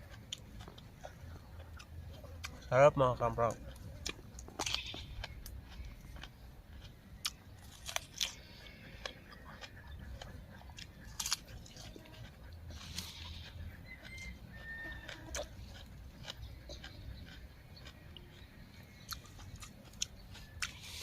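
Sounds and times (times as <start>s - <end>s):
crunchy chewing of vegetables: 0.0s - 21.0s.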